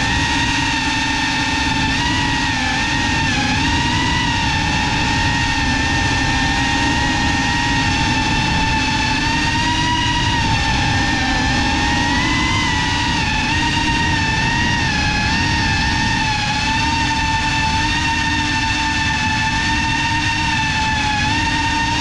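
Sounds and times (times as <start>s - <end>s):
drone propellers whining: 0.0s - 22.0s
rushing noise: 0.0s - 22.0s.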